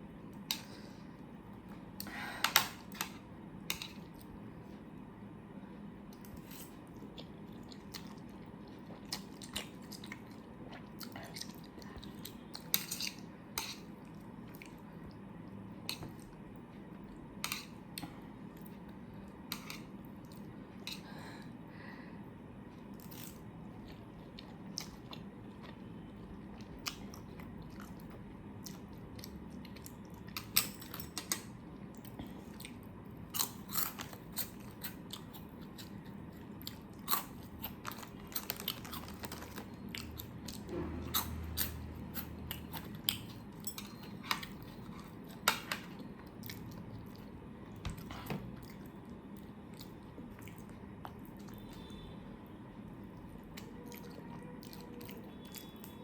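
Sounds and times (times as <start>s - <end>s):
person chewing food: 6.0s - 21.6s, 22.7s - 52.1s, 52.9s - 56.0s.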